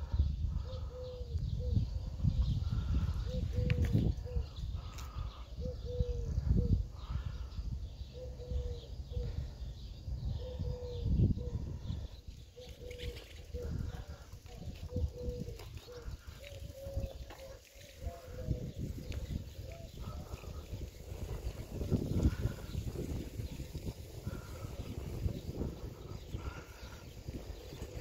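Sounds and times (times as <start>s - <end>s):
low rumbling on microphone: 0.0s - 12.4s, 13.0s - 28.0s
bird low call: 0.0s - 28.0s.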